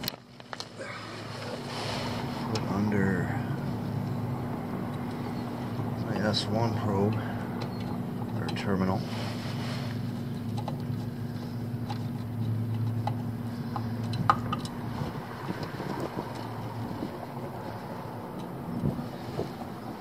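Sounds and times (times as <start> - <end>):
air conditioning unit humming: 0.0 - 20.0.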